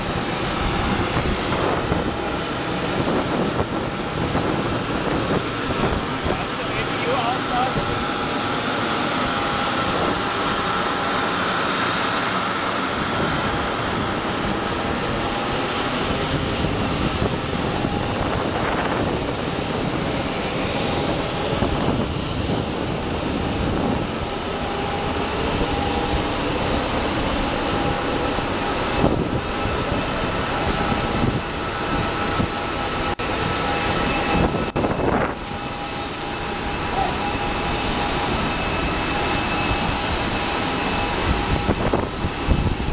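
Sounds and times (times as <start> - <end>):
jet turbine rushing: 0.0 - 42.9.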